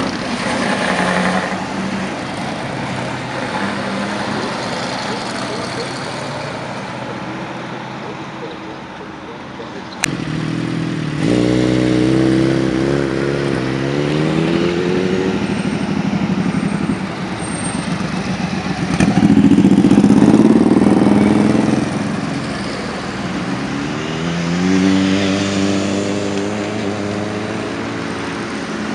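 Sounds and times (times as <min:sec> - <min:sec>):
motorcycles riding past: 0:00.0 - 0:28.9.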